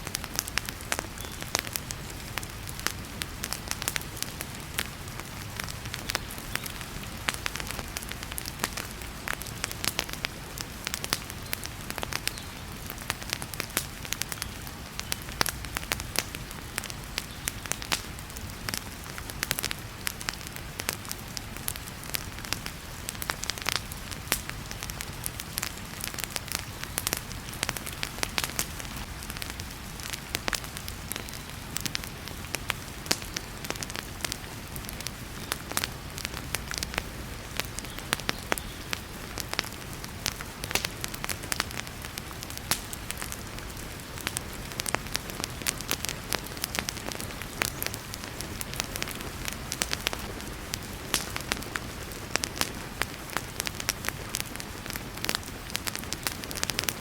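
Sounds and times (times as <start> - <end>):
heavy rain hiss: 0.0 - 57.0
wood fire crackling and popping: 0.0 - 57.0.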